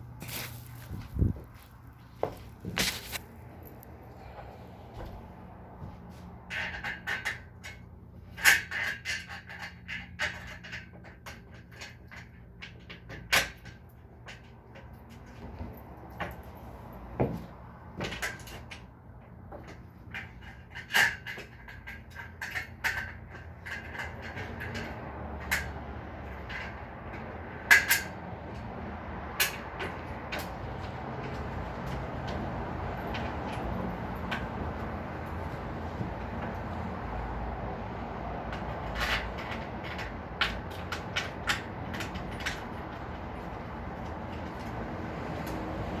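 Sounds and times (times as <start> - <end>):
bed-frame parts clicking and knocking: 0.1 - 46.0.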